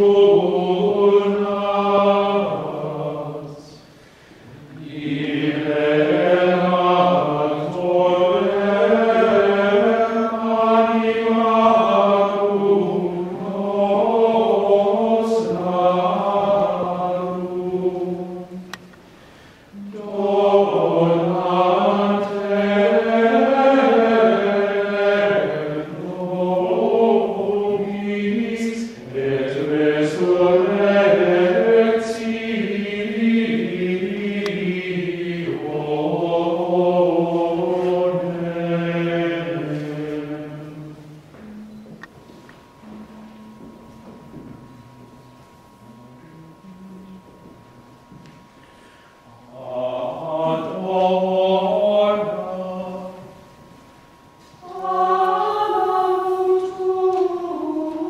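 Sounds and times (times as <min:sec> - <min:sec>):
group chanting in unison: 0:00.0 - 0:03.8, 0:04.4 - 0:18.8, 0:19.8 - 0:41.0, 0:49.3 - 0:53.4, 0:54.6 - 0:58.0.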